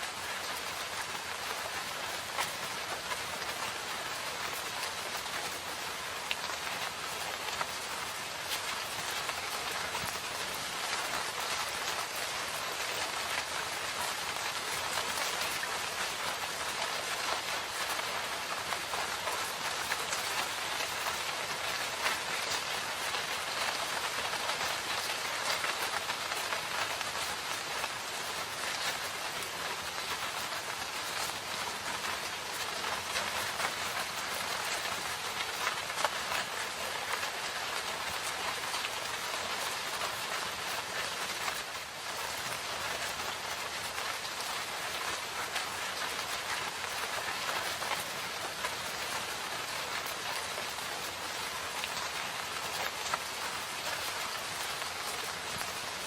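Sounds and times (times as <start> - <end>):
rain patter in a forest: 0.0 - 56.0.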